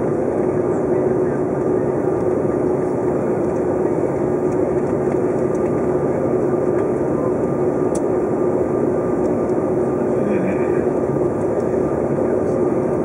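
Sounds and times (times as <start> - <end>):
jet engine and airflow roar: 0.0 - 13.0
steady hum: 0.0 - 13.0.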